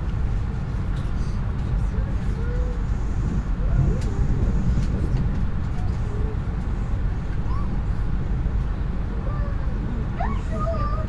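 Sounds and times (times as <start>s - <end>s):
train rumble from inside carriage: 0.0s - 11.0s.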